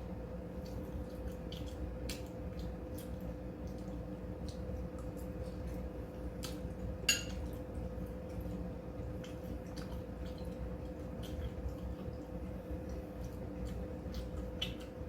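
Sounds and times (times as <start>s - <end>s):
steady low hum: 0.0s - 15.0s
person chewing food: 0.5s - 15.0s.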